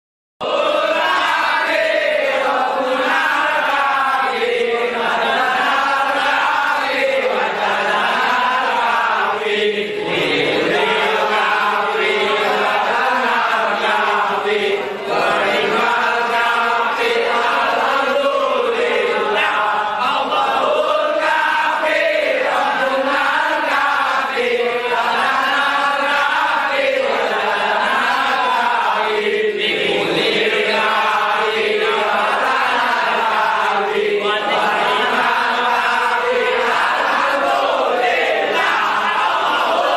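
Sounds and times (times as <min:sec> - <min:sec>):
men chanting in unison: 0:00.4 - 0:39.9.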